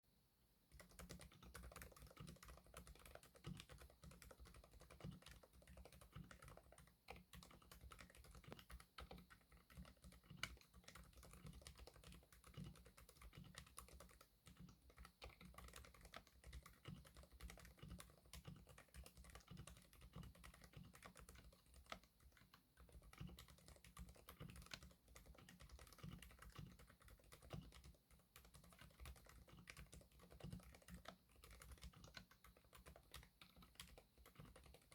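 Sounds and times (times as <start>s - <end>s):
quiet damped keyboard typing: 0.6s - 34.9s.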